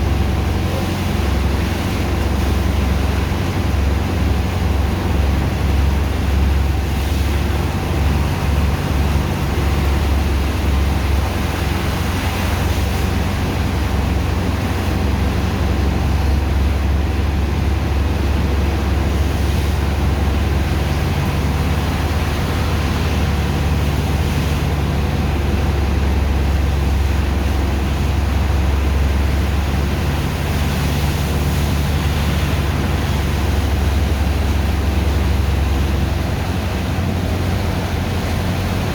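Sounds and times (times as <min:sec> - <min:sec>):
heavy pump engine droning: 0:00.0 - 0:38.9.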